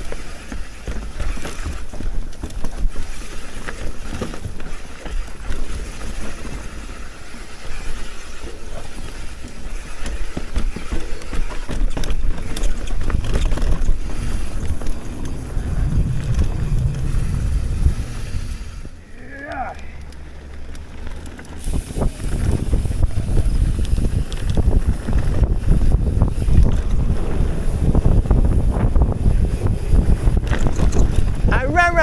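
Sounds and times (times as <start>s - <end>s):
bike clicks and rattles: 0.0s - 32.0s
knobby tyres rolling on dirt: 0.0s - 32.0s
wind noise on microphone: 0.0s - 32.0s.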